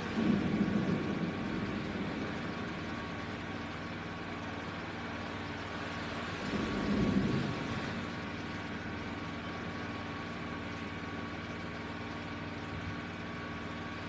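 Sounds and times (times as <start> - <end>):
steady engine drone: 0.0 - 14.0.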